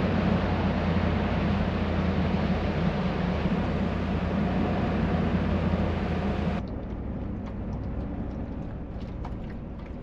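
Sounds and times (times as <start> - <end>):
low engine hum: 0.0 - 10.0
wind and road noise: 0.0 - 10.0.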